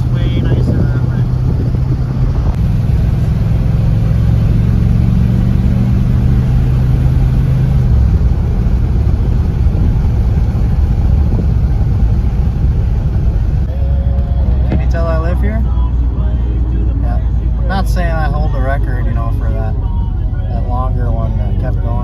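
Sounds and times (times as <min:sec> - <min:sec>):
car engine droning: 0:00.0 - 0:22.0
road noise: 0:00.0 - 0:22.0.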